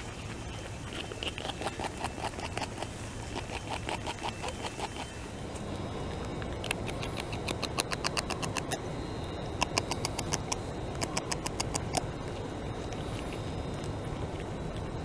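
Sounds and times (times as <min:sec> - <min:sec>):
beaver chewing twigs: 0:00.0 - 0:15.0.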